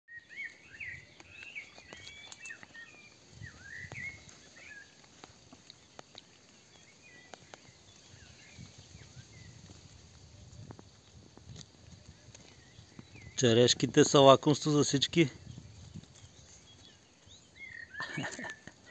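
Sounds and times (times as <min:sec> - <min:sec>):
songbirds chirping: 0:00.1 - 0:18.9.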